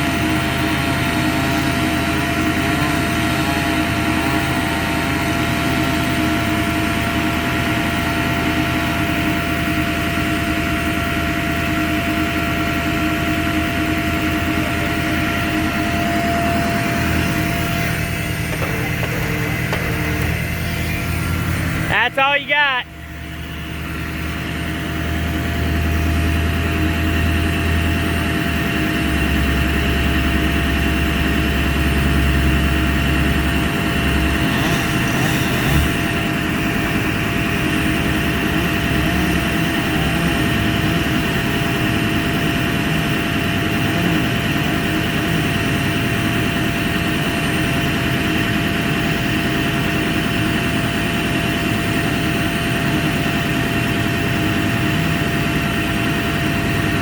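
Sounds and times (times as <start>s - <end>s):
engine-driven machine droning: 0.0s - 57.0s.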